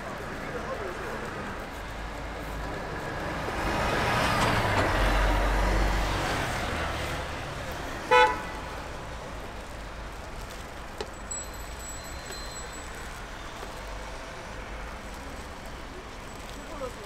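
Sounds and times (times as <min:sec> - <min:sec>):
roadside background noise: 0:00.0 - 0:17.0.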